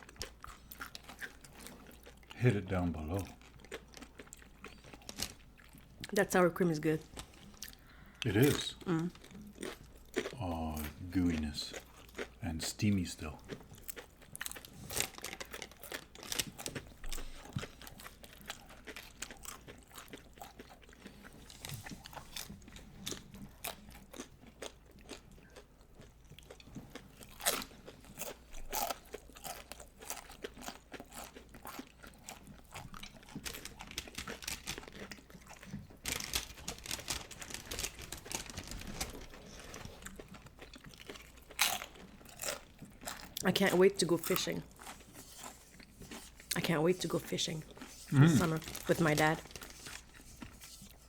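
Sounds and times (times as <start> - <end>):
crunching tortilla chips: 0.0 - 6.1, 7.0 - 46.6, 47.6 - 51.0.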